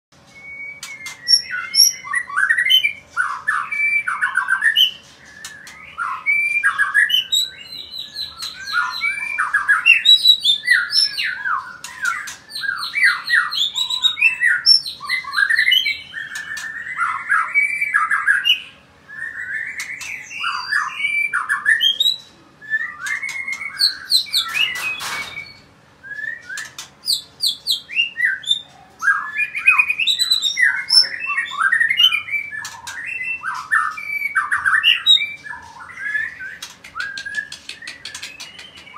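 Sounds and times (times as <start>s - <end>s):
bird singing whistles: 0.3s - 38.9s.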